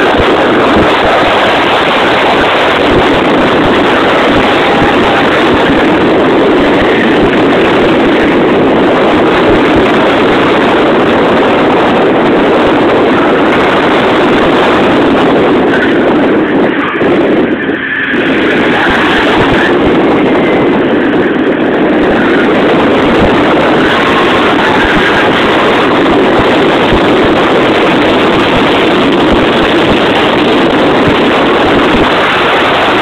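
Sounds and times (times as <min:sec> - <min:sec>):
rotary engine running: 0:00.0 - 0:33.0.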